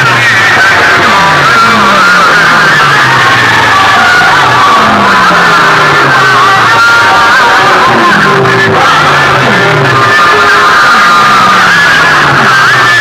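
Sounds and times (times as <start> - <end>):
loud dance music over loudspeakers: 0.0 - 13.0.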